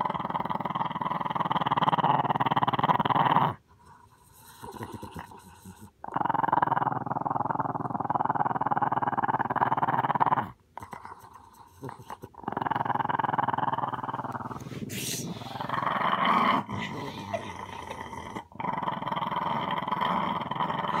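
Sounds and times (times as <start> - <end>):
small dog growling: 0.0 - 3.6, 4.4 - 10.6, 11.8 - 21.0.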